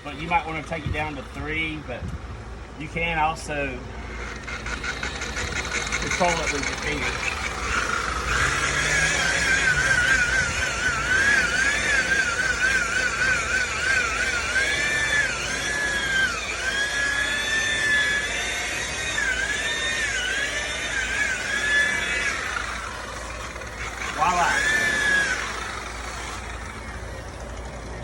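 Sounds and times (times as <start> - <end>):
electric buffer motor whine: 0.0 - 28.0.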